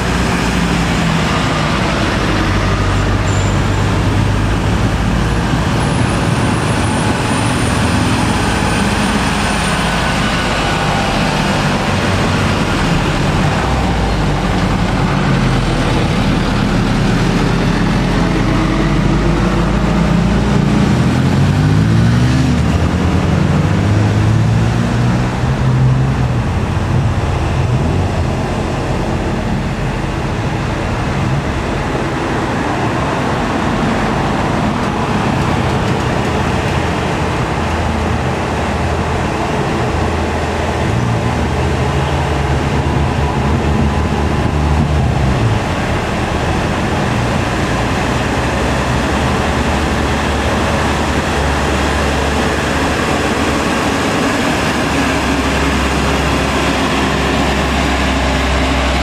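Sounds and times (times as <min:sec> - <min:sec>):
diesel truck engines under load: 0:00.0 - 0:59.0
road noise: 0:00.0 - 0:59.0.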